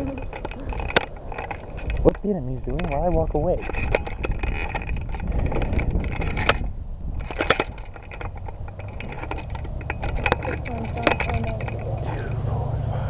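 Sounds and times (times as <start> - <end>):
low microphone rumble: 0.0 - 13.0.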